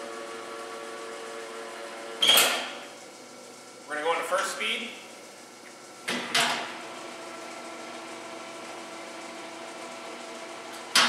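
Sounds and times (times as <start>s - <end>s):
mixer motor and gear hum: 0.0s - 11.0s.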